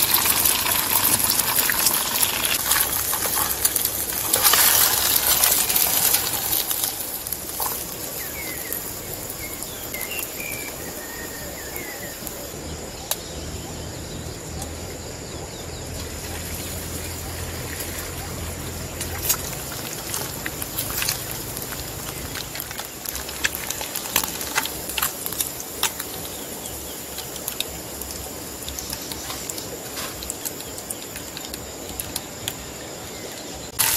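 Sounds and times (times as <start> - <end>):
frying pan sizzling: 0.0 - 15.2, 15.8 - 33.9
small birds chirping: 2.7 - 33.8.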